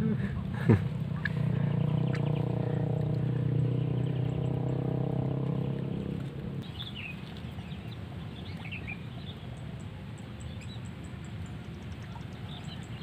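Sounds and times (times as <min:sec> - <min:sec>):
low background rumble: 0:00.0 - 0:13.0
small birds chirping: 0:00.0 - 0:13.0.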